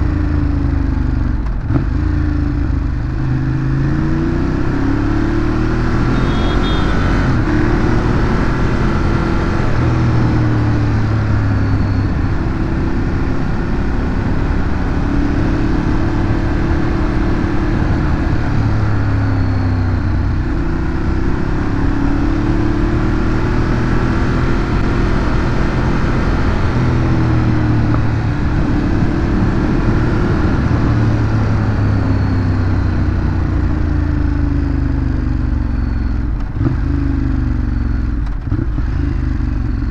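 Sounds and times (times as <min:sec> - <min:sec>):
motorcycle engine revving: 0:00.0 - 0:39.9
steady rush of road noise: 0:00.0 - 0:39.9.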